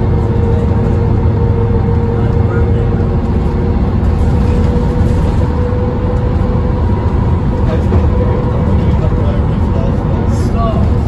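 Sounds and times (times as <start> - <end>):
bus diesel engine drone: 0.0 - 11.0
faint engine whine: 0.0 - 11.0.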